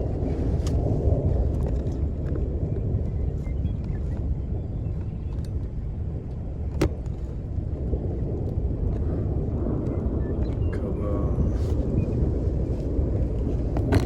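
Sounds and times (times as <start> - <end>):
car rumble from inside: 0.0 - 14.0.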